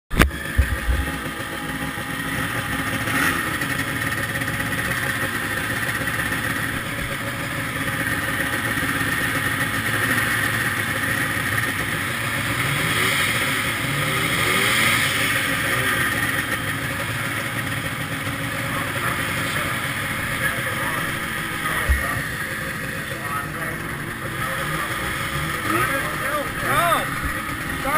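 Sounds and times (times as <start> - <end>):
snowmobile engine revving: 0.2 - 27.9
snowmobile engines idling: 0.2 - 27.9.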